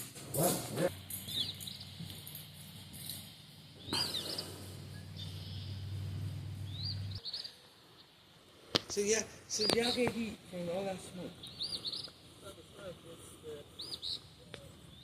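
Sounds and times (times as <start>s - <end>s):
steady low hum: 0.0s - 15.0s
birds chirping: 0.4s - 15.0s.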